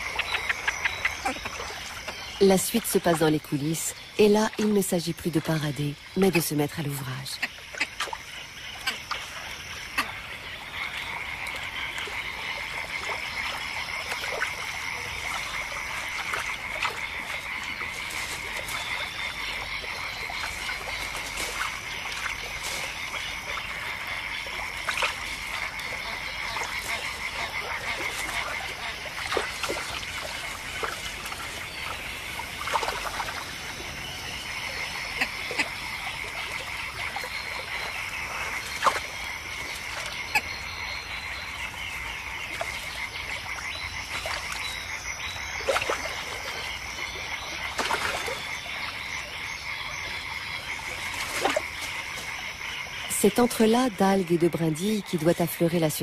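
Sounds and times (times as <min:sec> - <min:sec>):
frog croaks and clicks: 0:00.0 - 0:55.8
frogs calling: 0:00.0 - 0:56.0.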